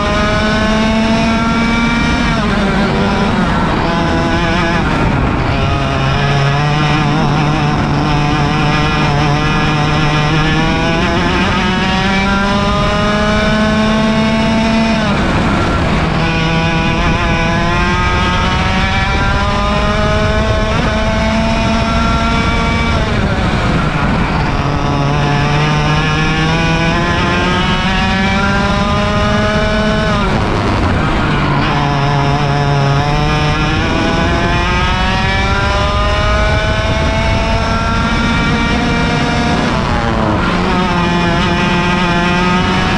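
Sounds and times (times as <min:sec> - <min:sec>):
kart engine at full throttle: 0:00.0 - 0:42.9.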